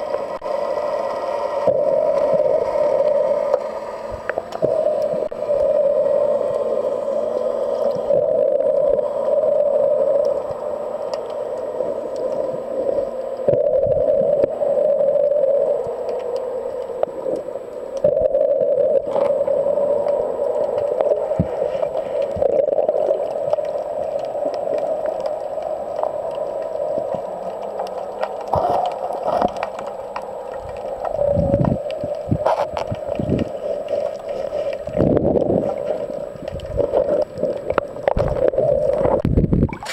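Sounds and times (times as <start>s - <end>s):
underwater hum: 0.0s - 39.9s.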